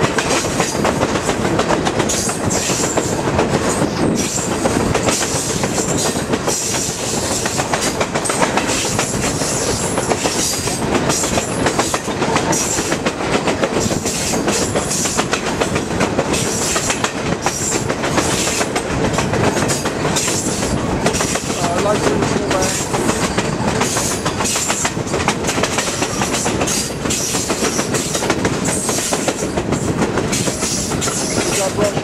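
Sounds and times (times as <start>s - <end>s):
train running noise: 0.0s - 32.0s
train wheels clattering over rail joints: 0.0s - 32.0s.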